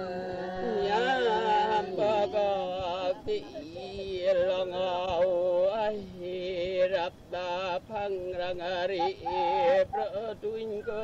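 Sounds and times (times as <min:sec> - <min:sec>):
person singing long held notes: 0:00.0 - 0:11.0.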